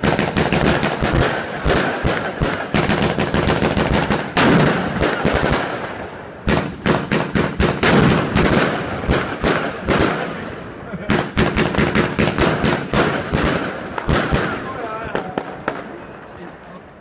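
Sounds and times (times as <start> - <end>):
fireworks bursting cracks: 0.0 - 16.6.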